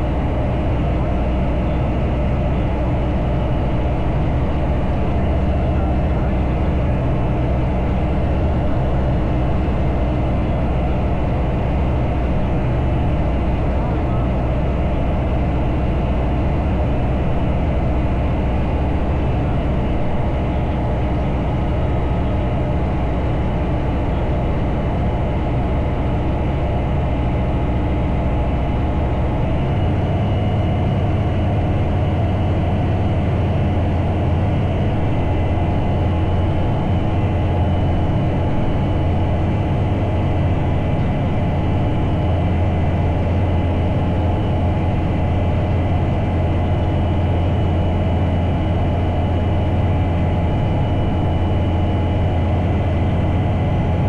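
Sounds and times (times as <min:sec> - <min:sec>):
light aircraft engine drone: 0:00.0 - 0:54.0.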